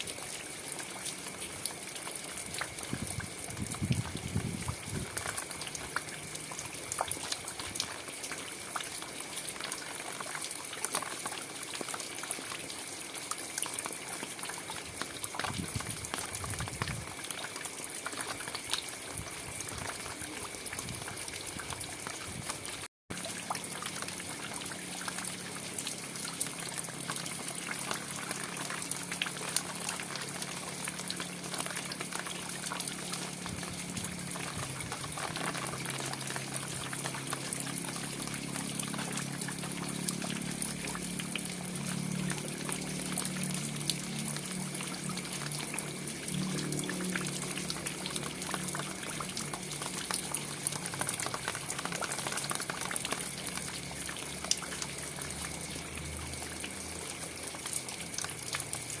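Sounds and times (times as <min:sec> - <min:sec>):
rain drops splashing: 0:00.0 - 0:59.0.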